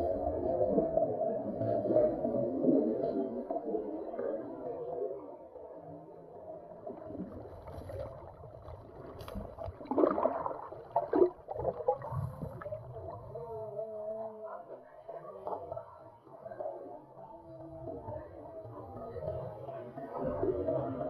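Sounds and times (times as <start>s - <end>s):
muffled underwater gurgling water: 0.0s - 21.0s.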